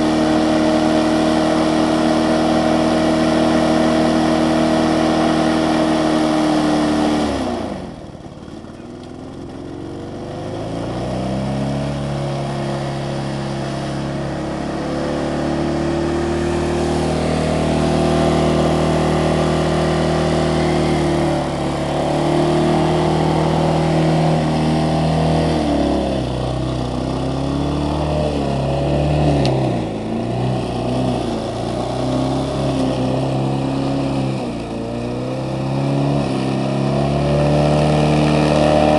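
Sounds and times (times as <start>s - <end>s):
lawnmower engine at high revs: 0.0s - 38.9s.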